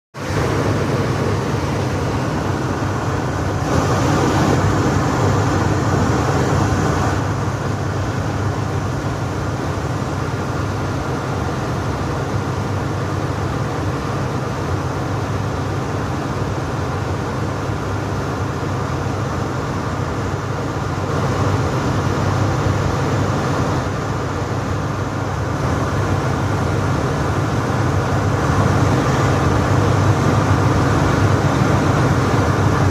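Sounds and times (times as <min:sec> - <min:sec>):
generator running: 0:00.2 - 0:32.9.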